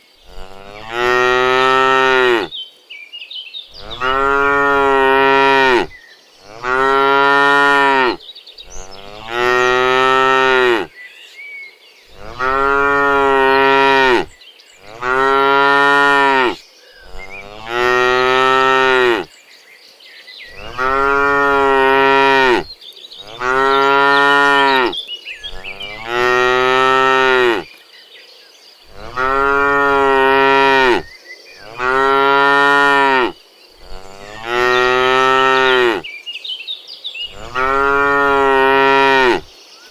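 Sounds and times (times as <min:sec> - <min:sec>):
cows mooing: 0:00.3 - 0:02.5, 0:03.8 - 0:10.9, 0:12.1 - 0:19.3, 0:20.5 - 0:27.6, 0:28.9 - 0:36.0, 0:37.3 - 0:39.5.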